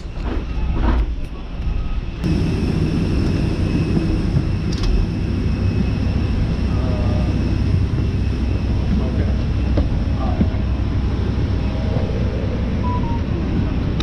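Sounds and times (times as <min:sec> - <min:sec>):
airliner cabin rumble: 0:00.0 - 0:14.0
faint high whine: 0:01.4 - 0:14.0.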